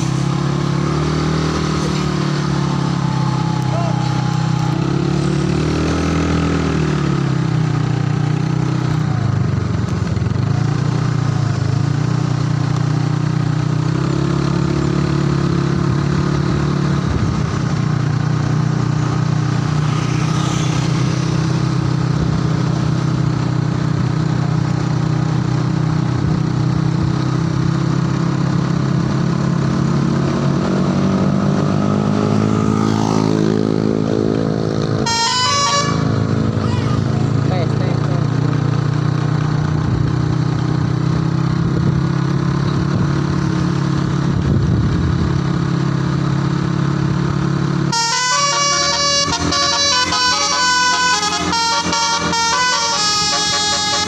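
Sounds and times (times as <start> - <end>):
motorcycle engine drone: 0.0 - 54.0.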